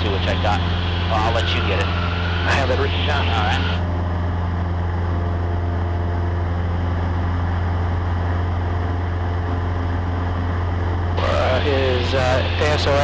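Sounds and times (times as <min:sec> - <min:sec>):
small plane engine droning: 0:00.0 - 0:13.0.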